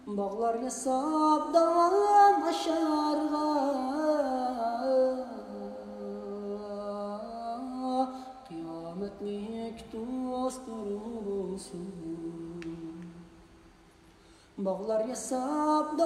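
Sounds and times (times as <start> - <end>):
person singing slow song: 0.0 - 16.0.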